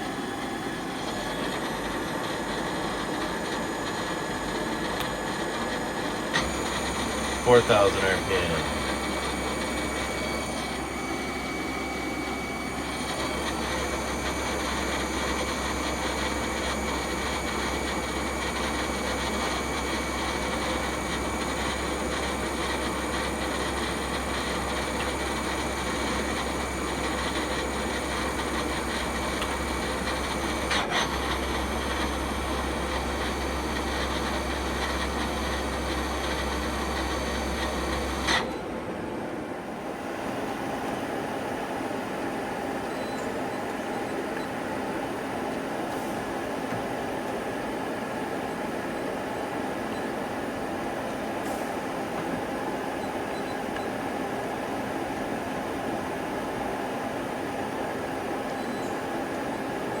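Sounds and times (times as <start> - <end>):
lathe spindle whine: 0.0 - 60.0.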